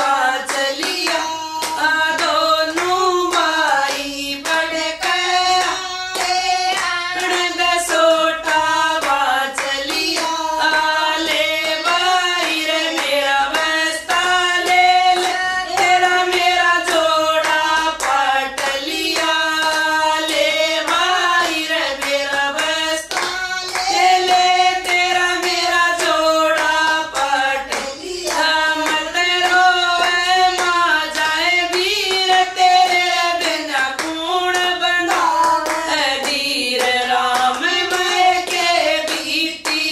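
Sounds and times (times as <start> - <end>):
hand-clapping: 0.0 - 39.9
women singing devotional song: 0.0 - 39.9.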